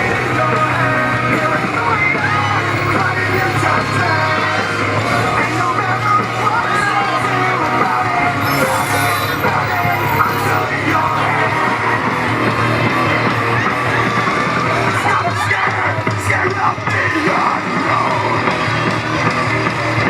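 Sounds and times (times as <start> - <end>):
loud music with singing: 0.0 - 20.0
people yelling: 0.0 - 20.0.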